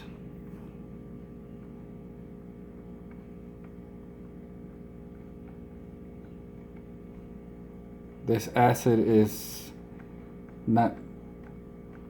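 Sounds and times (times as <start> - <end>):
power supply humming: 0.0 - 12.0.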